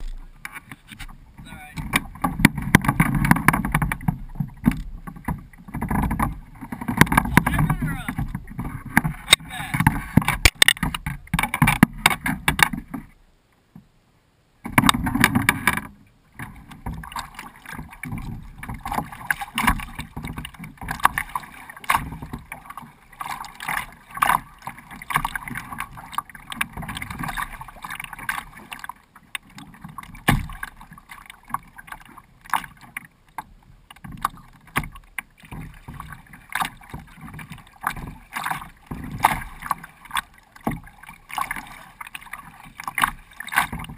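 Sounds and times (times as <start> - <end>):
water splashing against kayak hull: 0.0 - 13.9, 14.6 - 43.9.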